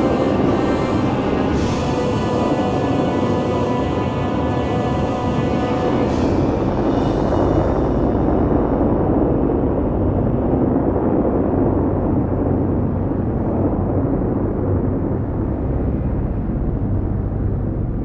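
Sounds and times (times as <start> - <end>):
deep explosion rumble: 0.0 - 18.0.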